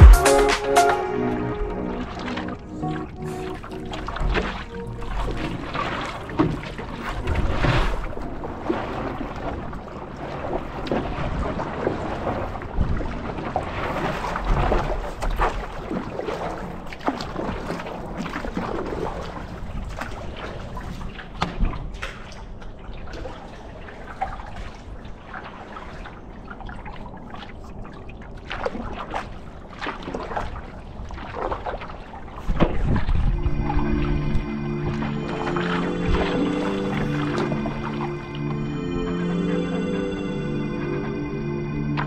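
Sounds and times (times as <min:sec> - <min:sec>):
water sloshing against paddleboard: 0:01.6 - 0:38.2.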